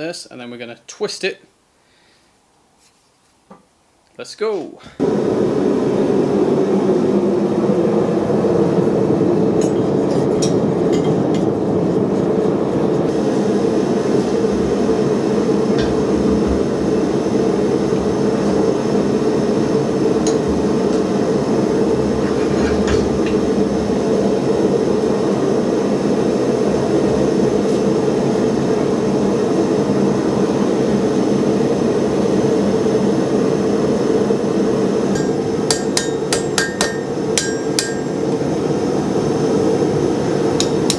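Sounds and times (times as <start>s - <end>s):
gas forge burner roaring: 4.8s - 40.9s.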